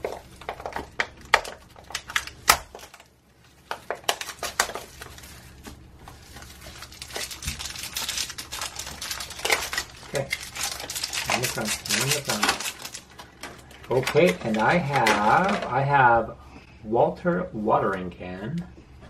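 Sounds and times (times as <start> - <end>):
plastic and foil wrappers crinkling: 0.0 - 16.0.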